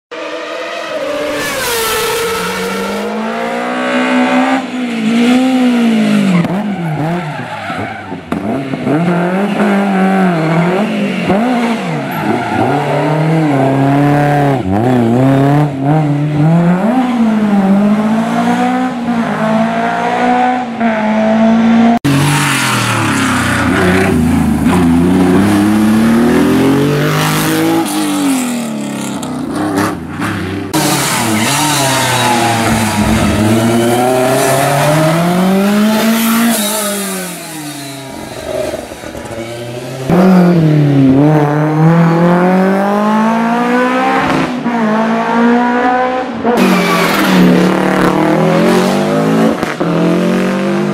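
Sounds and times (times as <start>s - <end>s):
rally car engines revving: 0.1s - 50.9s.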